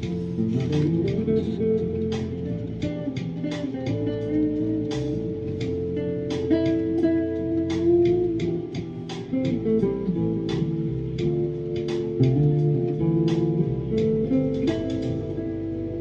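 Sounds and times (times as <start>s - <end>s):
electric guitar played slowly: 0.0s - 16.0s.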